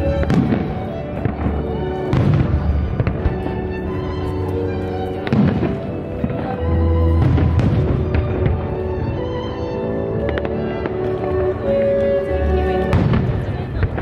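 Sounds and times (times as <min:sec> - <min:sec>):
fireworks bursting with booms: 0:00.0 - 0:09.6, 0:10.2 - 0:14.0
music with long held notes: 0:00.0 - 0:14.0.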